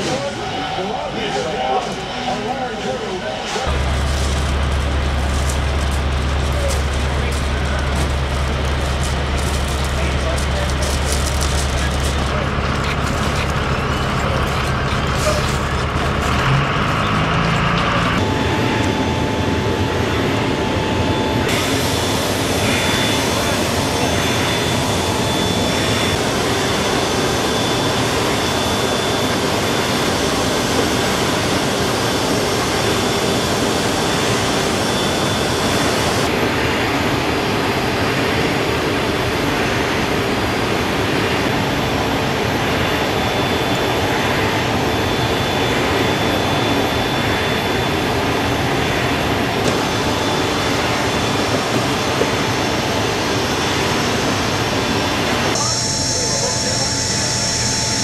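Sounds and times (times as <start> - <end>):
jet turbine rush with high whine: 0.0 - 58.0.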